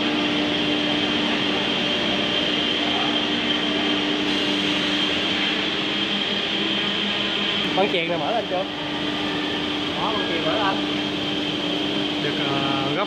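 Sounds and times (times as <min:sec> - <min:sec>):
router machine humming and whining: 0:00.0 - 0:13.0.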